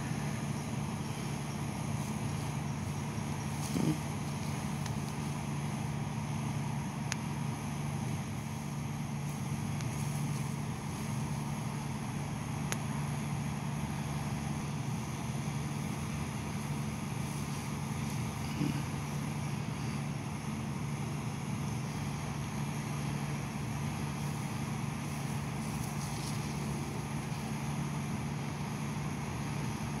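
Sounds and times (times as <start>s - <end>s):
low engine drone: 0.0s - 30.0s
motor humming: 0.0s - 30.0s.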